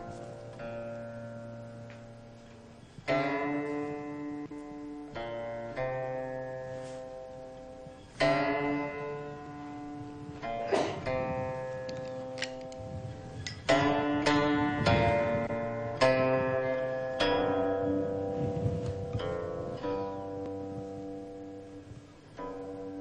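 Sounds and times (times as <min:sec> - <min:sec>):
plucked string instrument music: 0:00.0 - 0:23.0.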